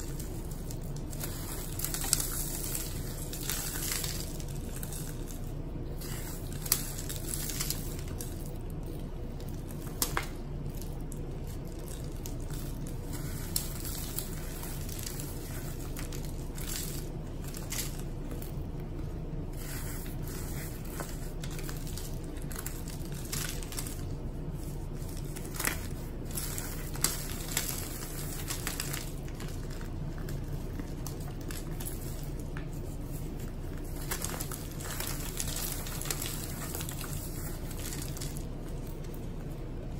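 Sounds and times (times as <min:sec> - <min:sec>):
dry blocks crunching in hands: 0:00.0 - 0:39.5
steady low hum: 0:00.0 - 0:39.9.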